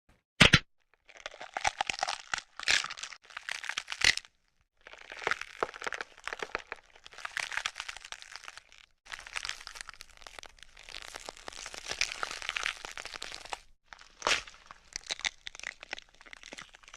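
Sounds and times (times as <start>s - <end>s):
close-up crackling and crinkling: 0.8s - 16.9s.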